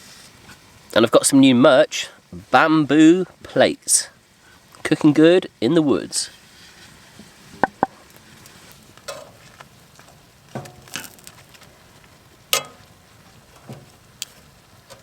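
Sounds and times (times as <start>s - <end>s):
prawns sizzling in a pan: 0.0s - 14.9s.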